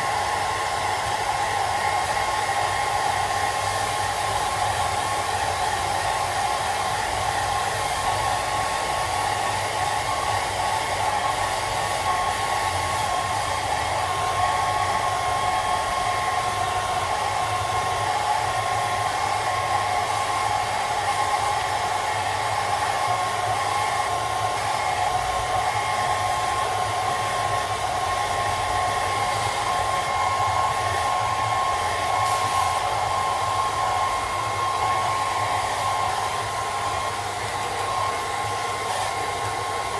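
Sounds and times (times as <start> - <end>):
hairdryer running: 0.0 - 39.9.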